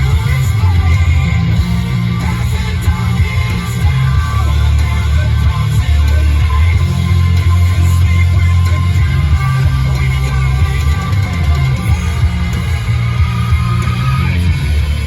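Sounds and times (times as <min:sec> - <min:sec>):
distorted electric guitars: 0:00.0 - 0:15.0
loud bass: 0:00.0 - 0:15.0.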